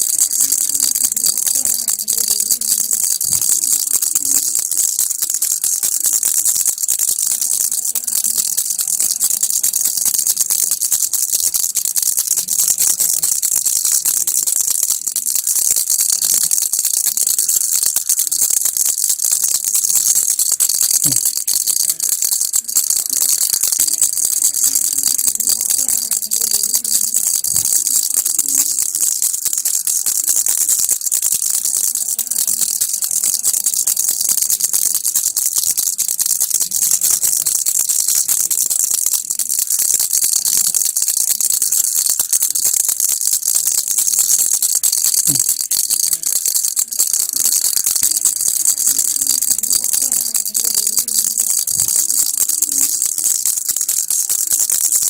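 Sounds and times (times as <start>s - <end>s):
baby rattle shaking: 0.0s - 55.0s.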